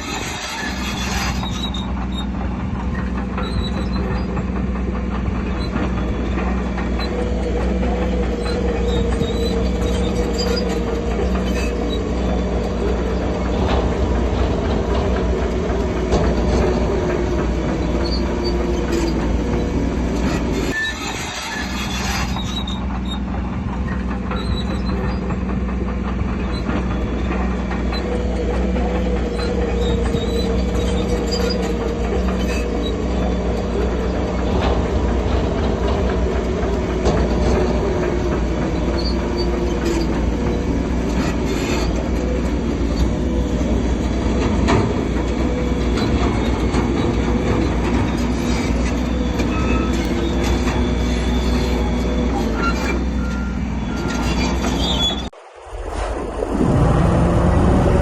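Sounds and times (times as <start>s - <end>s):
metallic clanks of steel tracks: 0.0s - 56.1s
bulldozer diesel drone: 0.0s - 58.0s.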